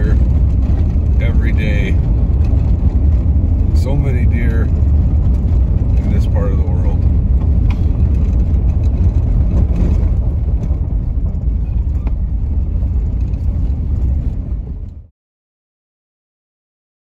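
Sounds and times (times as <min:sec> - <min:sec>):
faint rattles: 0:00.0 - 0:15.0
vehicle road rumble: 0:00.0 - 0:15.1.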